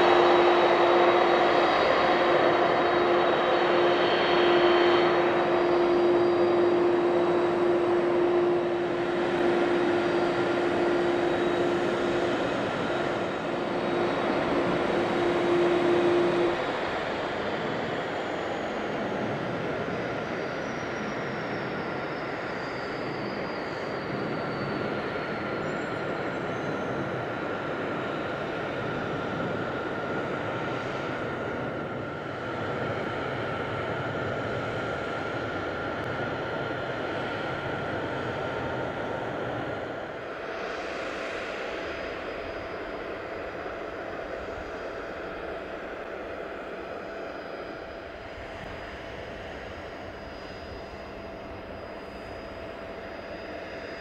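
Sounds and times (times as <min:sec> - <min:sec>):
jet engines roaring: 0:00.0 - 0:22.4, 0:27.0 - 0:53.9.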